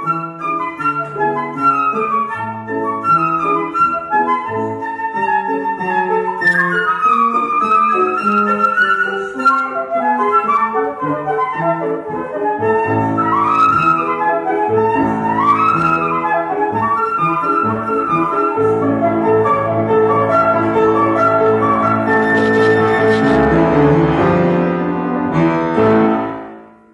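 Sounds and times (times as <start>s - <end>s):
flute playing quick runs: 0.0s - 23.9s
piano chords: 0.0s - 26.9s.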